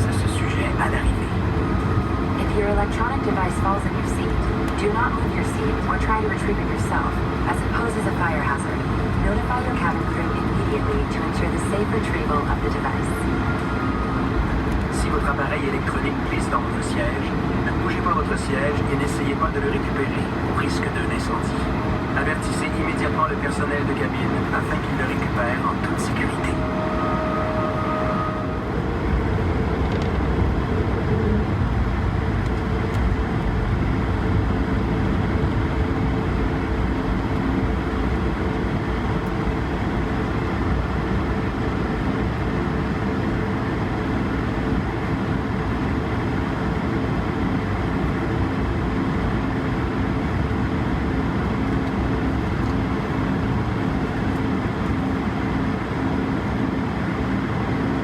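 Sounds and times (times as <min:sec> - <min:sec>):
jet cabin engine hum: 0:00.0 - 0:58.0.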